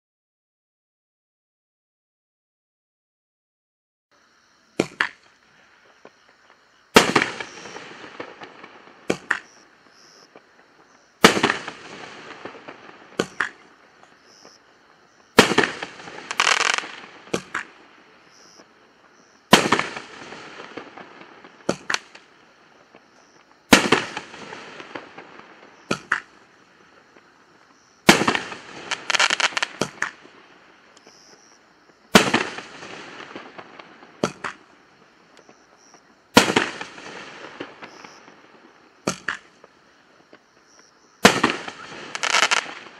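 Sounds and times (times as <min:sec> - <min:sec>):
small firework pops: 0:04.8 - 0:14.6, 0:15.2 - 0:18.8, 0:19.5 - 0:42.9
firework bangs: 0:06.9 - 0:42.9.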